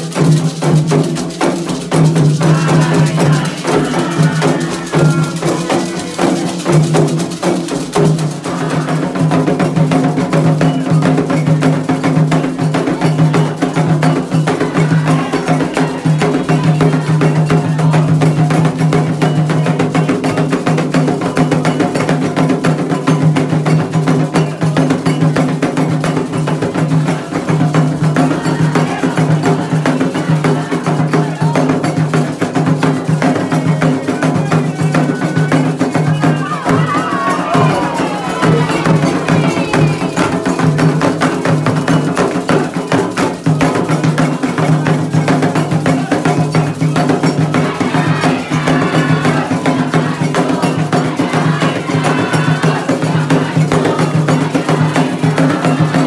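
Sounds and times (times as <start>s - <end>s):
hand drums playing fast rhythm: 0.0s - 56.0s
struck bell: 0.1s - 56.0s.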